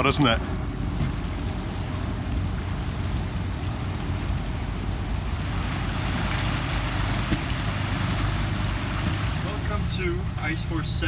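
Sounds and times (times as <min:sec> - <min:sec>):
boat engine humming: 0:00.0 - 0:11.0
wind and water rushing: 0:00.0 - 0:11.0.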